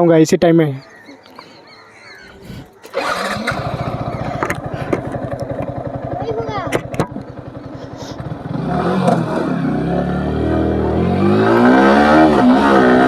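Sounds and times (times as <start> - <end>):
motorcycle engine accelerating: 2.5 - 13.0.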